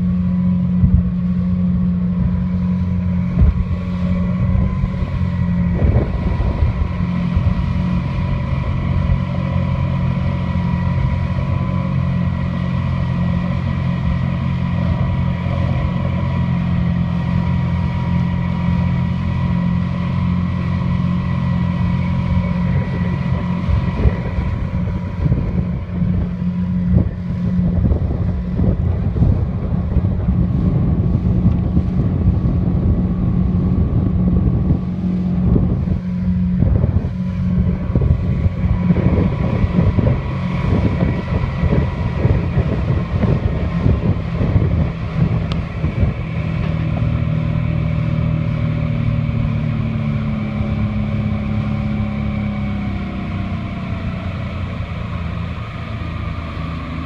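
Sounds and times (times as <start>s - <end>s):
outboard motor running: 0.0s - 57.0s
rushing water: 0.0s - 57.0s
wind buffeting microphone: 0.0s - 57.0s.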